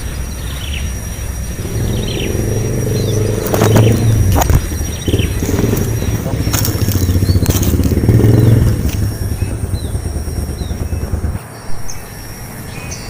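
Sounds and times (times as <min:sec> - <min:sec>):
small engine rumbling: 0:00.0 - 0:13.0.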